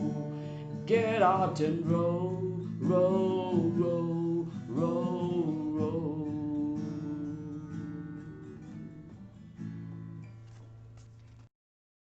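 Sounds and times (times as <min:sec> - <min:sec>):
acoustic guitar strumming chords: 0:00.0 - 0:11.1.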